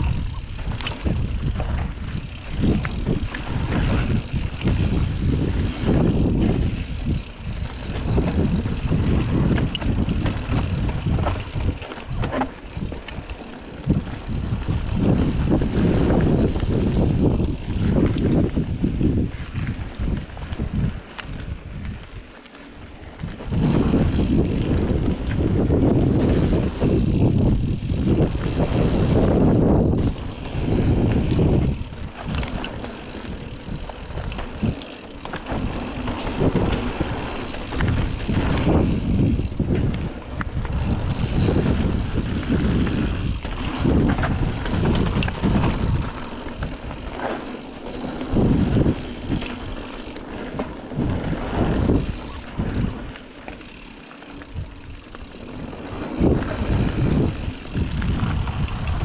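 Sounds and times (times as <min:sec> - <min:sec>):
bike clicks and rattles: 0:00.0 - 0:59.0
tyres rumbling over dirt: 0:00.0 - 0:59.0
wind buffeting microphone: 0:00.0 - 0:59.0.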